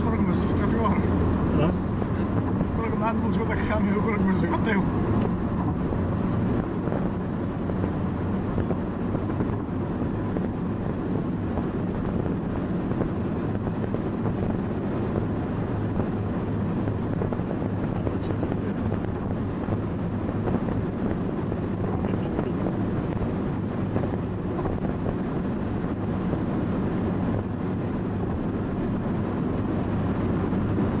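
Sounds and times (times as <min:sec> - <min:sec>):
car engine hum: 0:00.0 - 0:31.0
tyre and wind rush: 0:00.0 - 0:31.0.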